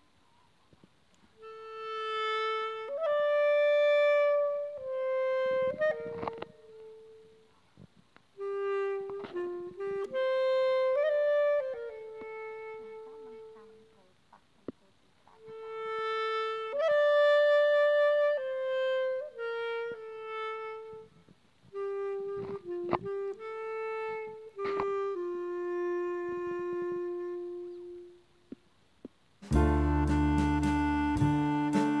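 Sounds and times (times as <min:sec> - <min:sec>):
slow wind instrument melody: 0:01.4 - 0:14.1, 0:15.4 - 0:28.6, 0:29.4 - 0:32.0.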